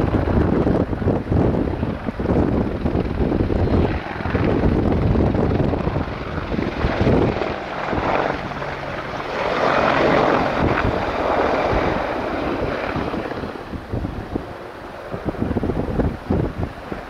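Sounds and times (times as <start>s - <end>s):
helicopter flying past: 0.0s - 17.0s.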